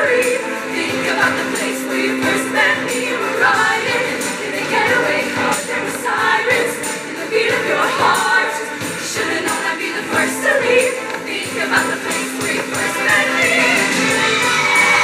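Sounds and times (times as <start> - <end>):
instrumental accompaniment with beat: 0.0 - 15.0
women singing together: 0.0 - 15.0.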